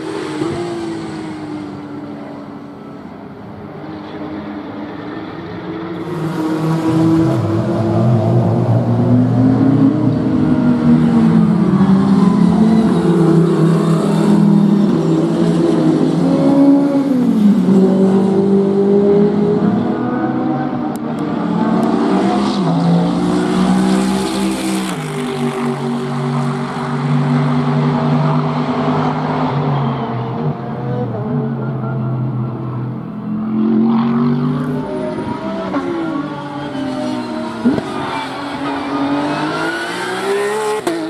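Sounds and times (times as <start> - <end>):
race car engines: 0.0 - 41.0.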